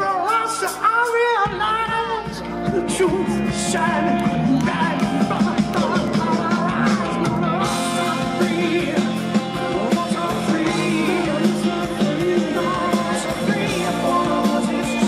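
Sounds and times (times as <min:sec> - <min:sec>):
rock band playing live: 0:00.0 - 0:15.0
bending lead guitar line: 0:02.2 - 0:15.0.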